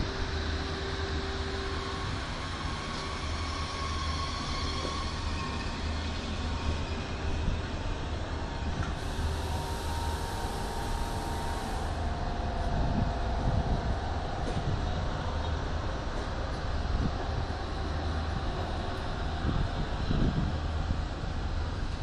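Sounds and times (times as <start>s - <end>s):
faint whining tones: 0.0s - 22.0s
train running hum: 0.0s - 22.0s.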